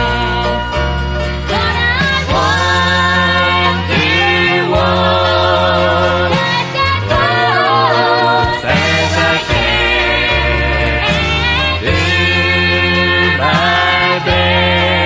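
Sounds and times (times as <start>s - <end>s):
low bass notes: 0.0s - 15.0s
vocal group singing in harmony: 0.0s - 15.0s.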